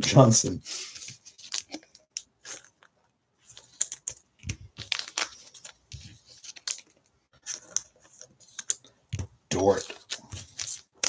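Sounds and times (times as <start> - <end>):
trading cards being flipped: 0.9 - 11.0.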